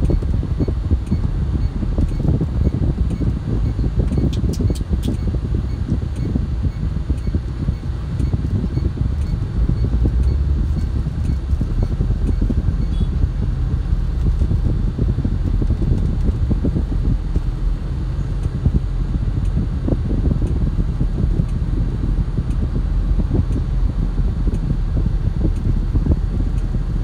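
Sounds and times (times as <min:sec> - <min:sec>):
car cabin rumble while driving: 0:00.0 - 0:27.0.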